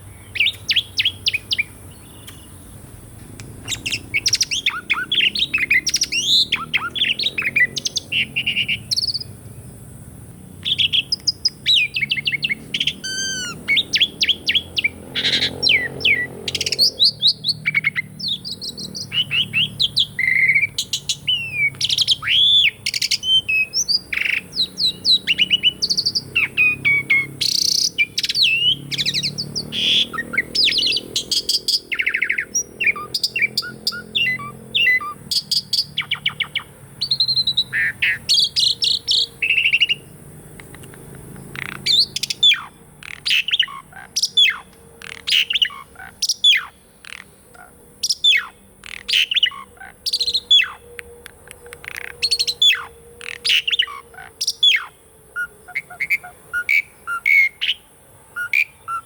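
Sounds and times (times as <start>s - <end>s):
starling singing: 0.0s - 9.4s, 10.4s - 59.0s.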